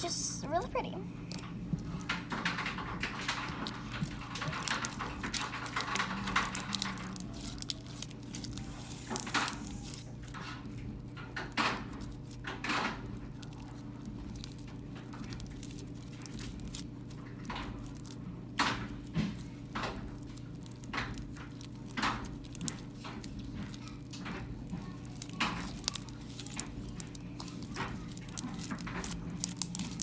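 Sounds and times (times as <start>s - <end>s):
slime squished with wet crackles: 1.3s - 10.2s, 11.4s - 30.0s.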